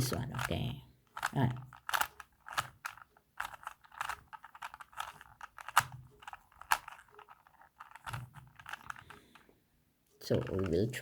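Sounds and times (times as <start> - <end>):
puzzle cube clicking: 0.0 - 9.5, 10.3 - 11.0.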